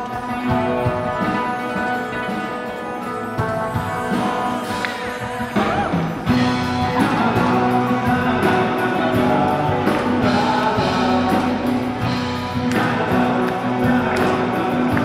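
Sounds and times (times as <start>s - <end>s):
acoustic guitars strummed: 0.0s - 15.0s
acoustic rock band playing: 0.0s - 15.0s.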